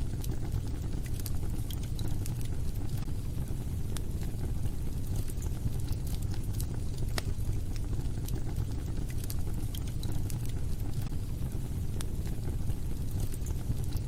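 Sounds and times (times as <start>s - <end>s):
low rumble of burning fire: 0.0s - 14.0s
wood fire crackling and popping: 0.0s - 14.0s.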